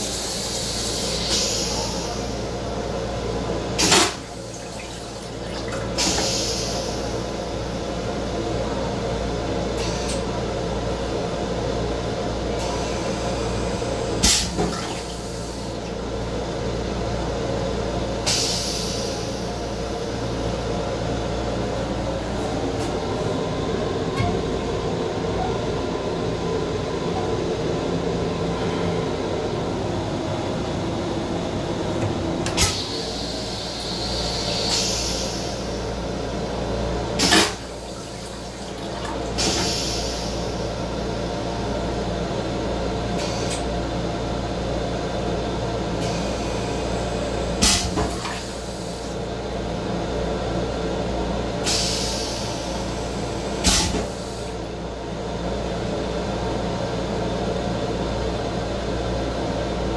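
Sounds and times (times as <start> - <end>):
rail car hum: 0.0 - 59.9.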